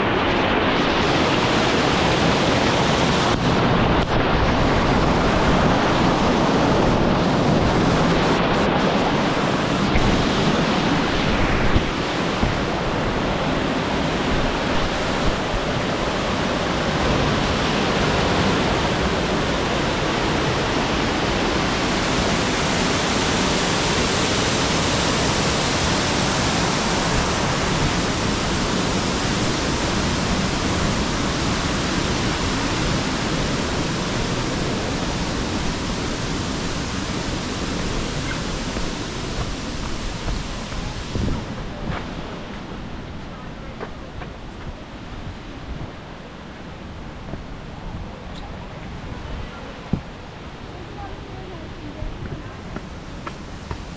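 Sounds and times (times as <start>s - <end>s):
fast river water rushing: 0.0s - 53.9s.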